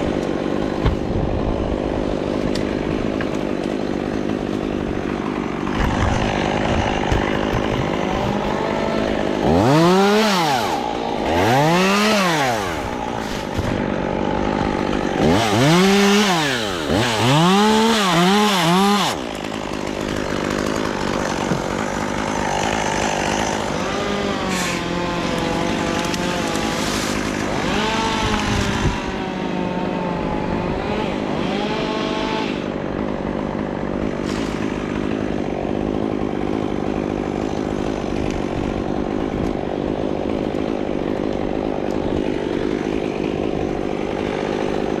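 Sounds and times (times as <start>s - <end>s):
chainsaw revving: 0.0s - 45.0s.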